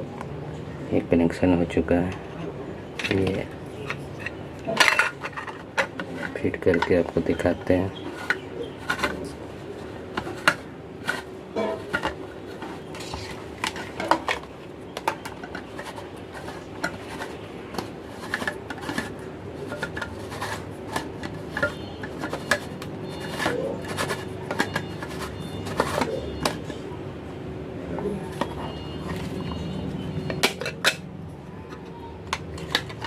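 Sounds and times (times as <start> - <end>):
plastic lantern parts clicking and rattling: 3.0 - 9.3, 10.1 - 26.8, 28.3 - 33.0.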